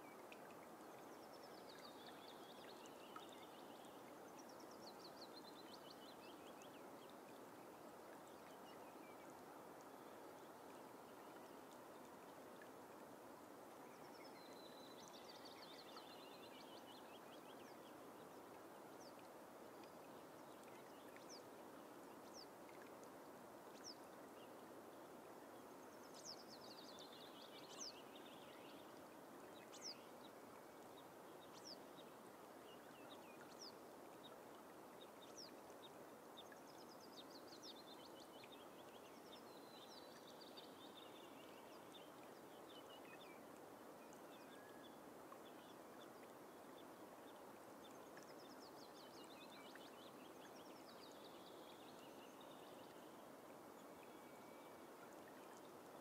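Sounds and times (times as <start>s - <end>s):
soft hiss of bog ambience: 0.0s - 56.0s.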